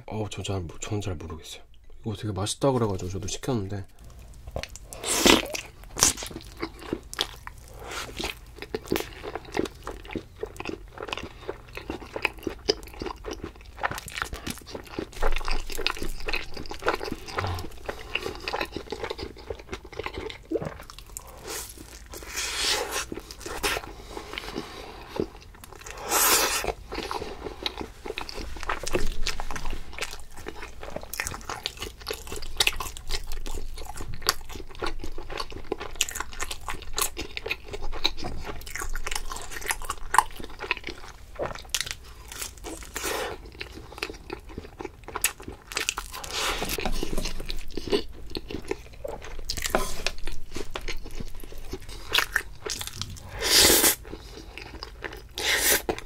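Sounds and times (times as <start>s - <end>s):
chewing and biting food: 4.0s - 56.0s.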